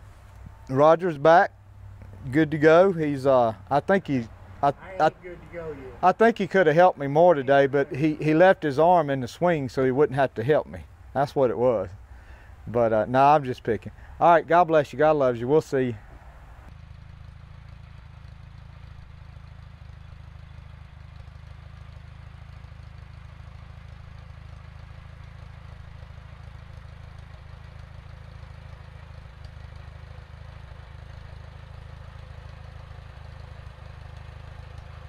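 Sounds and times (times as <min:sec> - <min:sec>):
engine idling: 0:00.0 - 0:35.0.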